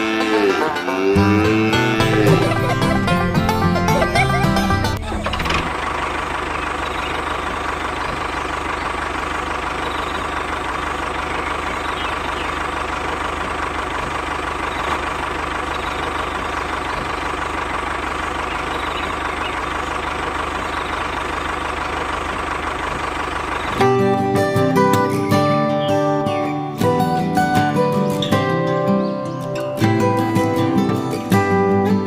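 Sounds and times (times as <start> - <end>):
engine-like machine running: 0.0 - 32.0.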